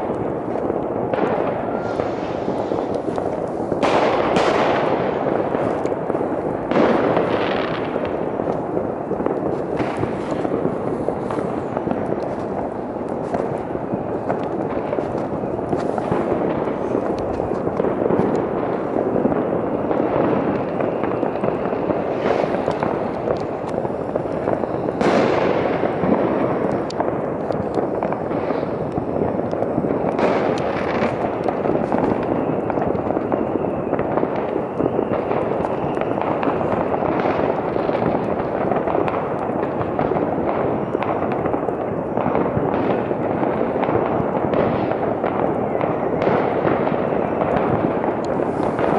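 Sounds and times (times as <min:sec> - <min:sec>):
firecrackers crackling: 0:00.0 - 0:48.9
loud firework bangs: 0:00.0 - 0:48.9.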